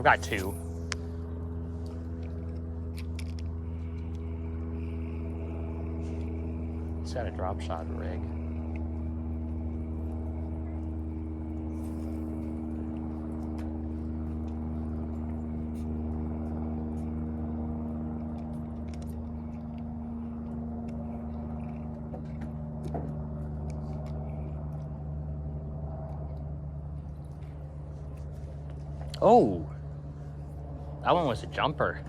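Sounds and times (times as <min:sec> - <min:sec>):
low engine-like hum: 0:00.0 - 0:32.0.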